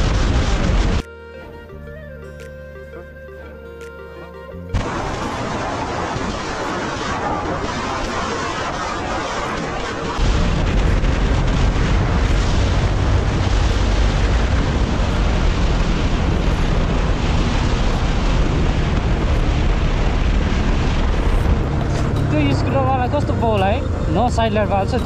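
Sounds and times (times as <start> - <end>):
wind rumbling on microphone: 0.0 - 1.1, 4.7 - 25.0.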